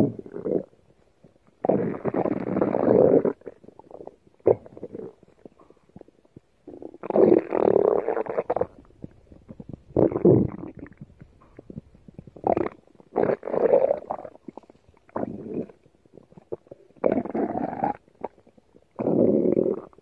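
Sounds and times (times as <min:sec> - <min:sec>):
stomach growling: 0:00.0 - 0:20.0.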